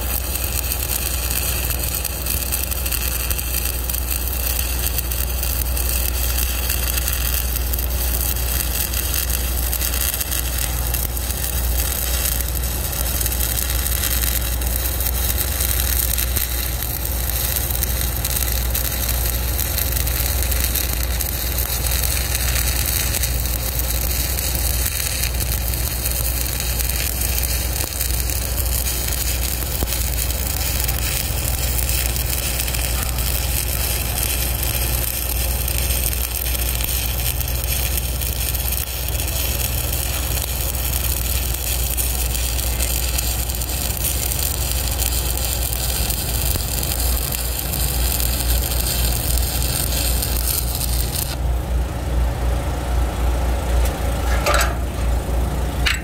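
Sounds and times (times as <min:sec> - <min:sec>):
welding arc crackling and sizzling: 0:00.0 - 0:56.0.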